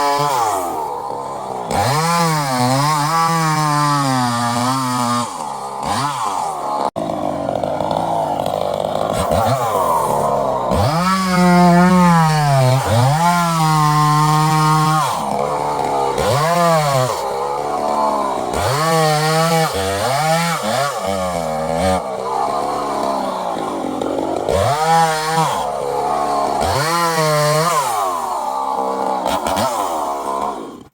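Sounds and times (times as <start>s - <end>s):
chainsaw engine revving: 0.0s - 30.9s.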